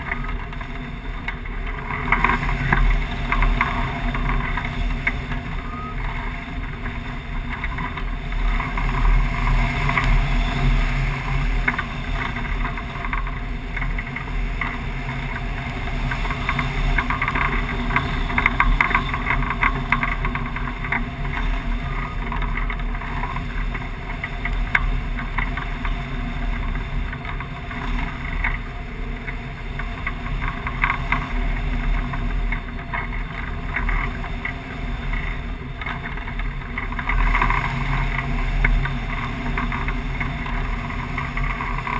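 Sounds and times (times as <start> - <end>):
irregular crackling: 0.0 - 41.9.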